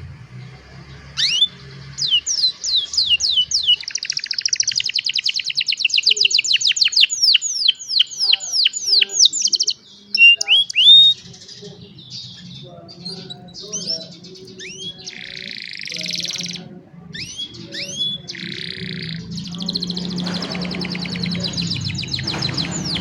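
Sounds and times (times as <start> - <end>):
canary singing trills: 0.0 - 23.0.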